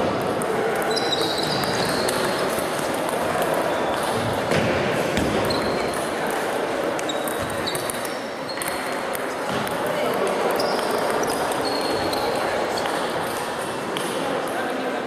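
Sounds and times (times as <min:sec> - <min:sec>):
murmur of voices: 0:00.0 - 0:15.0
table tennis balls clicking: 0:00.1 - 0:04.5, 0:05.2 - 0:14.6.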